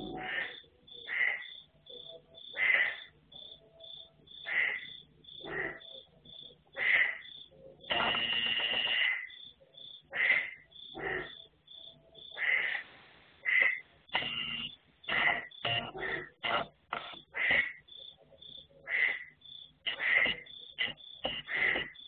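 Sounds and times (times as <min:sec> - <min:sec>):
cricket chirping: 0:00.0 - 0:12.8, 0:13.5 - 0:22.0.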